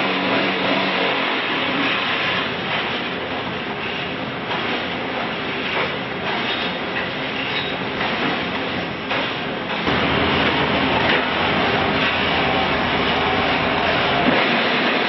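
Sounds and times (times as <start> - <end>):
block-making machine running: 0.0 - 15.0
wheel loader engine: 0.0 - 15.0.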